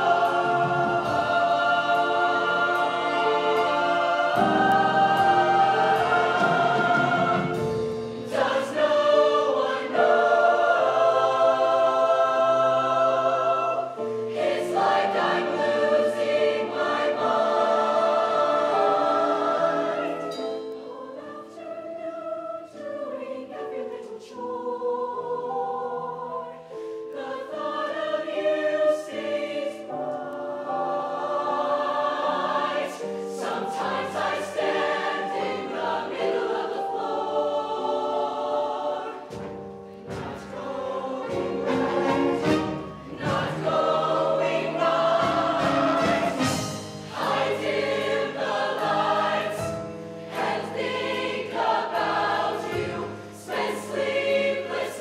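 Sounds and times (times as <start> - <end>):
choir singing sustained chords: 0.0 - 55.0.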